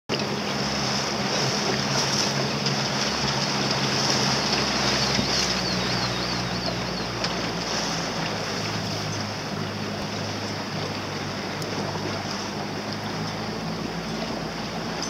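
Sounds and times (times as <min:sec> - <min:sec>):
outboard motor running: 0:00.1 - 0:15.0
water rushing past hull: 0:00.1 - 0:15.0
wind on microphone: 0:00.2 - 0:15.0.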